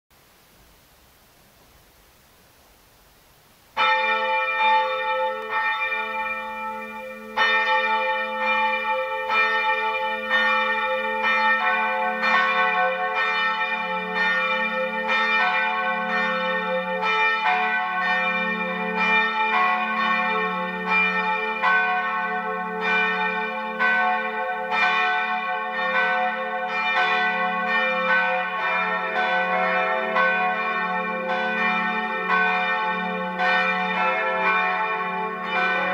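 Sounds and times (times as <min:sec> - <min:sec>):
church bells ringing: 0:03.8 - 0:35.9.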